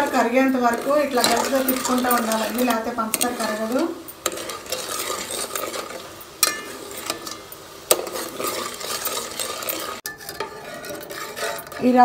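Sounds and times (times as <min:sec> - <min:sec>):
ladle scraping in pot: 0:00.0 - 0:12.0.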